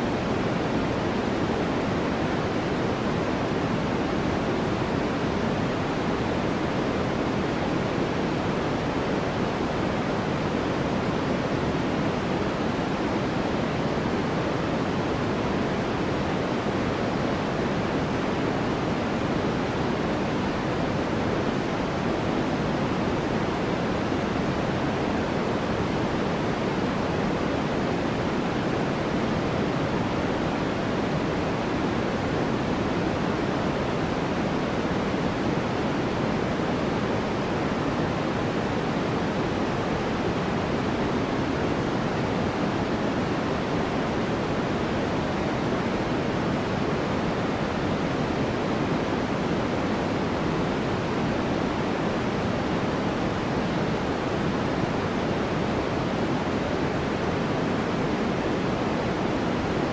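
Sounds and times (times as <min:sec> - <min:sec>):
deep steady noise rush: 0:00.0 - 0:59.9.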